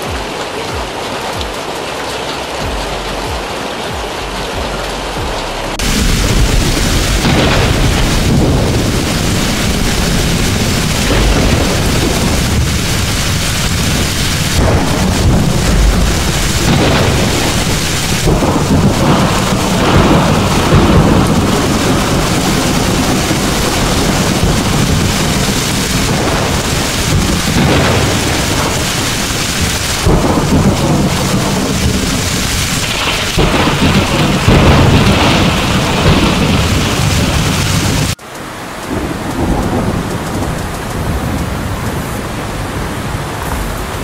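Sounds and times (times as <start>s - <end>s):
heavy rain: 0.0s - 44.0s
thunder rumbling: 4.2s - 44.0s.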